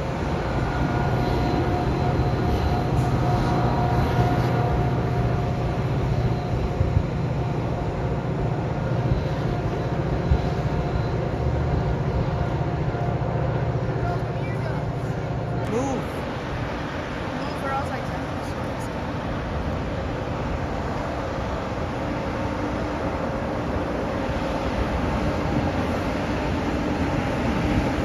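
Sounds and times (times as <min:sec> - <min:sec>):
train rumble with whine: 0:00.0 - 0:28.0.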